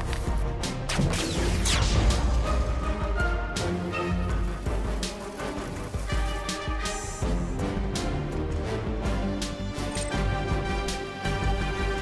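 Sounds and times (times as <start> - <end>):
dramatic soundtrack music: 0.0 - 12.0.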